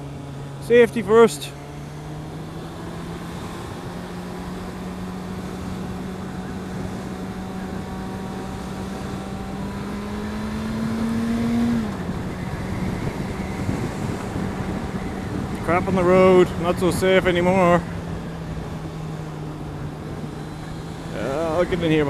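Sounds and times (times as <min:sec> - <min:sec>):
motorcycle engine running: 0:00.0 - 0:22.0
road noise: 0:00.0 - 0:22.0
rushing wind: 0:00.0 - 0:22.0.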